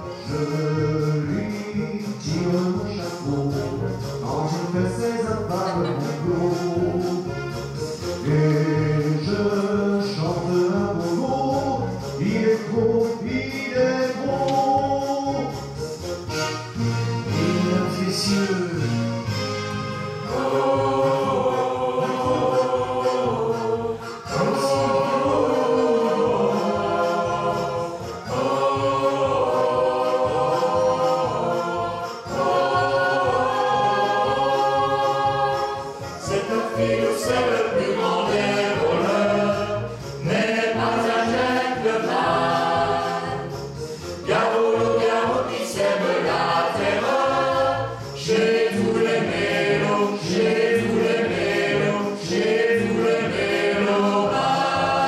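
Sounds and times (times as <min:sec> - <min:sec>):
mixed choir singing: 0:00.0 - 0:15.6, 0:17.2 - 0:55.0.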